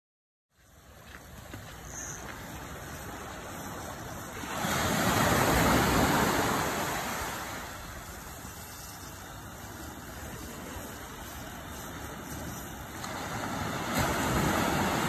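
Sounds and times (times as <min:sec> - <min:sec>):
hiss of shore break: 0:02.1 - 0:15.0
wave breaking on beach: 0:02.3 - 0:15.0.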